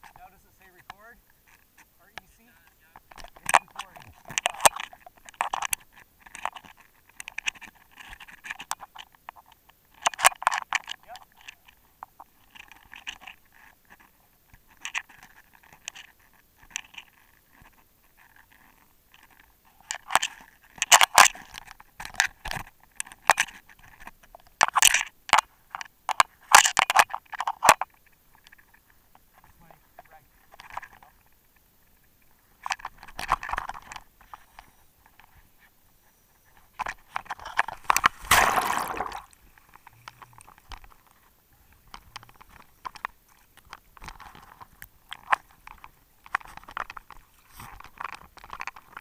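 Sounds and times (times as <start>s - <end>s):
dive gear clicks and knocks: 0.0s - 28.8s, 32.6s - 35.4s, 36.7s - 41.2s, 41.8s - 49.0s.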